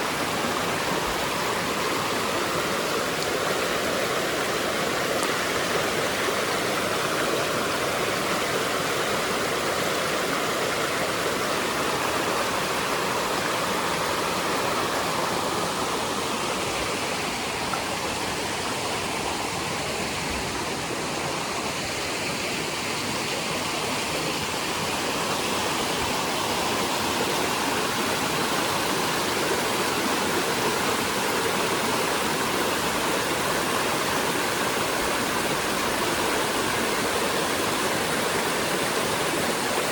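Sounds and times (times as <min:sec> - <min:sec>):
fast-flowing stream water: 0:00.0 - 0:39.9.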